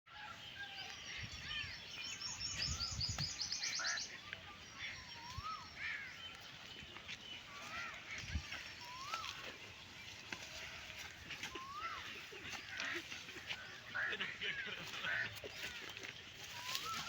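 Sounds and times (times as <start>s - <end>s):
birds chirping: 0.1s - 17.0s.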